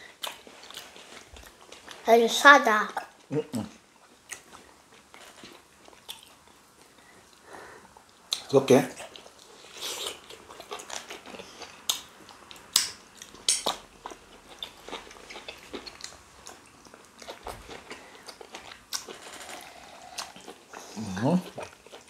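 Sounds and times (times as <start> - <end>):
chewing and wet mouth sounds: 0.0 - 2.1, 4.0 - 22.0.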